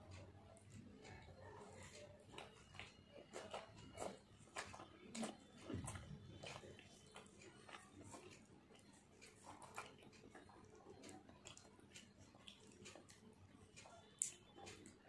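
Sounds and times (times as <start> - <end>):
chewing clicks: 0.0 - 15.0.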